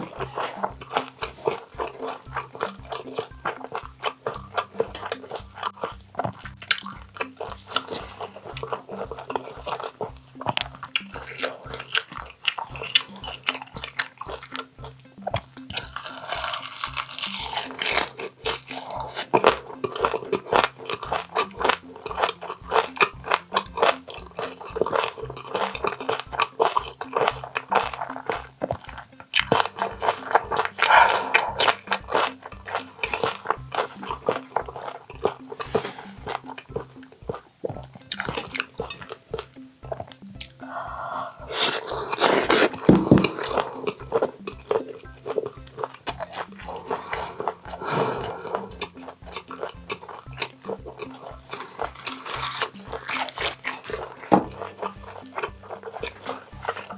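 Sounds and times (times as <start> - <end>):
background music with beat: 0.0 - 56.9
wet crunchy chewing: 0.0 - 56.9.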